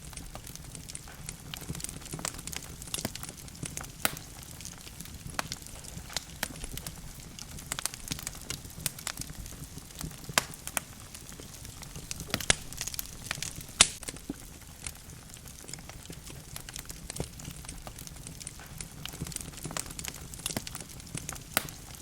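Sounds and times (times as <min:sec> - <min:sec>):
logs crackling and popping: 0:00.0 - 0:22.0
low rumble of flames: 0:00.0 - 0:22.0.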